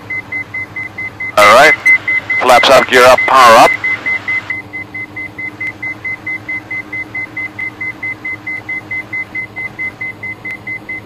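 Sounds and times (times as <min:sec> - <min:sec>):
high rapid warning beep: 0:00.1 - 0:11.0.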